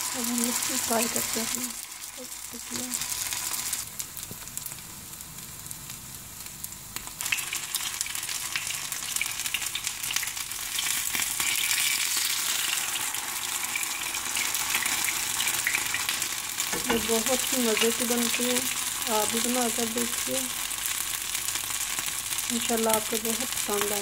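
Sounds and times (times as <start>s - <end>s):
patties frying in hot oil: 0.0s - 24.0s.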